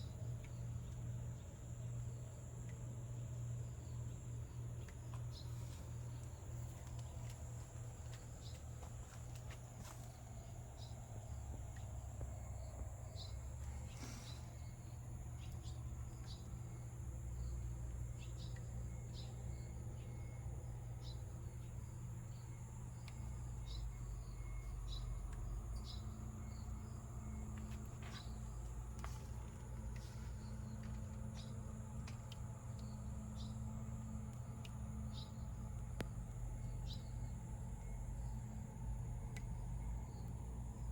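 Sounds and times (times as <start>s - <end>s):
insect chirps: 0.0s - 40.9s
insects trilling: 0.0s - 40.9s.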